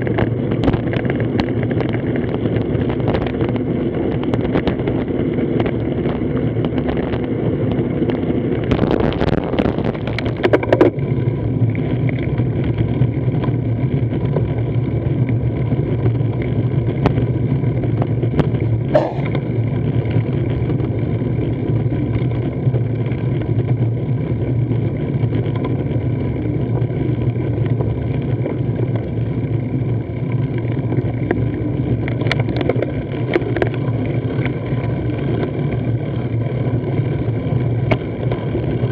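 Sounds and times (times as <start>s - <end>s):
road and wind noise rumble: 0.0s - 38.9s.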